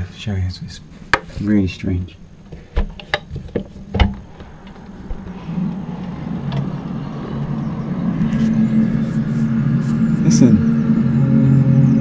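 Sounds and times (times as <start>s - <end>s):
low droning hum outside: 0.0s - 12.0s.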